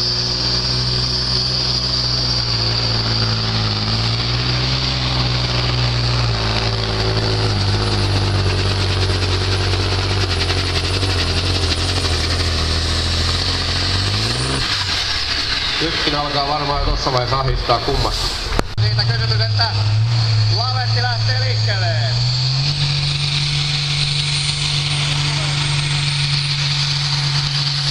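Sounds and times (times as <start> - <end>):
diesel engine under full load: 0.0 - 27.9
high whine: 0.0 - 27.9.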